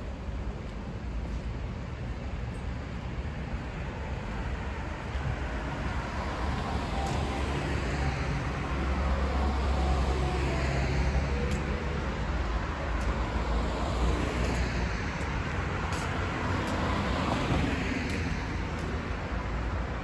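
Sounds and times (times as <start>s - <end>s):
city street traffic: 0.0s - 20.0s.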